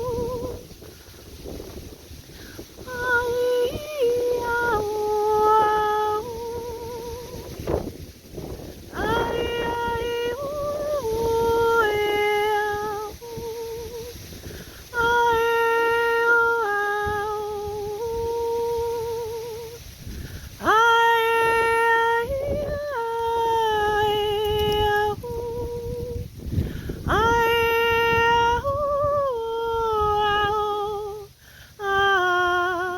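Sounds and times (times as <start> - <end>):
woman humming: 0.0 - 0.8, 2.8 - 7.6, 8.9 - 14.2, 14.9 - 19.8, 20.6 - 26.3, 27.0 - 32.9.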